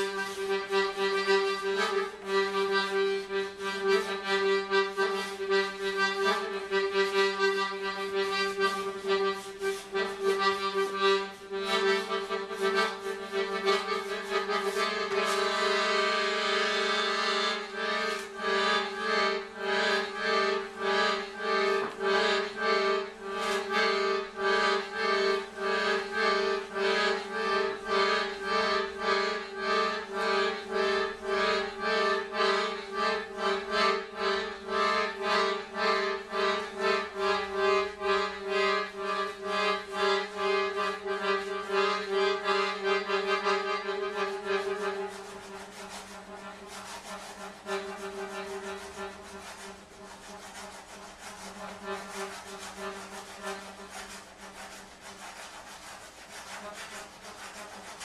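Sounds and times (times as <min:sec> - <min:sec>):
accordion drone and chords: 0:00.0 - 0:58.0.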